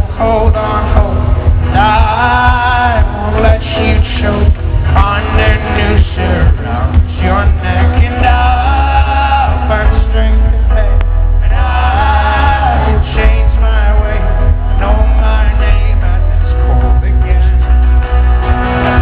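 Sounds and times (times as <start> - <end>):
boomy bass: 0.0 - 19.0
folk-rock band playing: 0.0 - 19.0.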